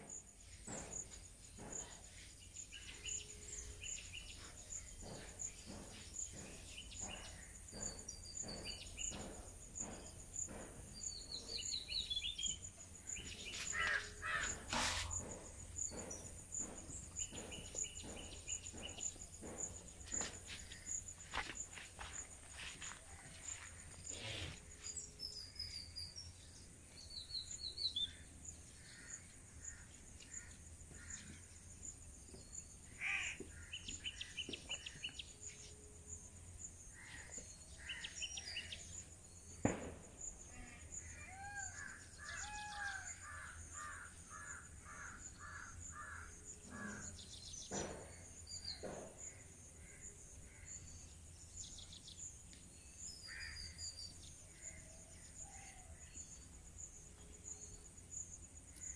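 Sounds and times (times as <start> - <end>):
birds chirping and trilling: 0.0 - 58.9
insects trilling: 0.0 - 58.9.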